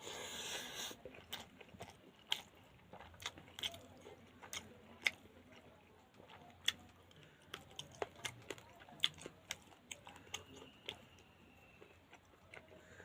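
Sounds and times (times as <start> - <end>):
mouth clicks and smacks chewing: 0.7 - 12.8.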